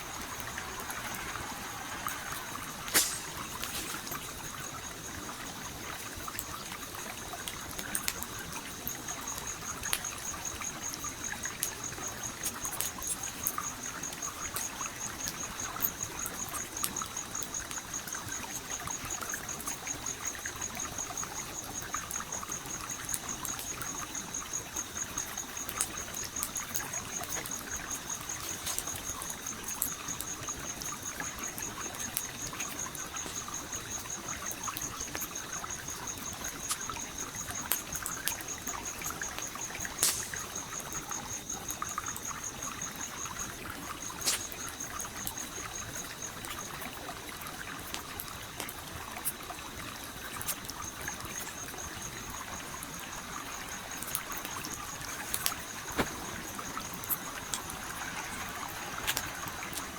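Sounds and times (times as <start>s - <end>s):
campfire crackling and popping: 0.0s - 59.9s
stream flowing: 0.0s - 59.9s.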